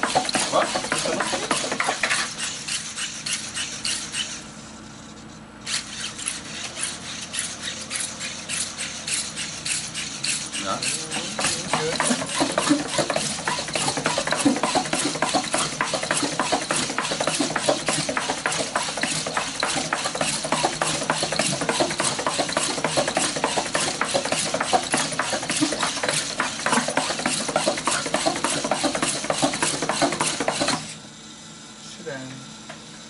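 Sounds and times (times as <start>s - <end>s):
robot mechanical clatter: 0.0s - 31.0s.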